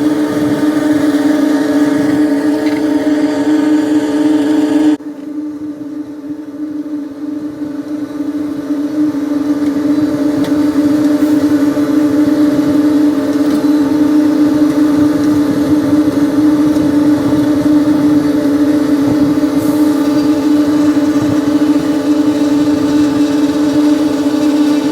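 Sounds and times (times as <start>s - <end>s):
heavy machine engine running: 0.0s - 24.9s.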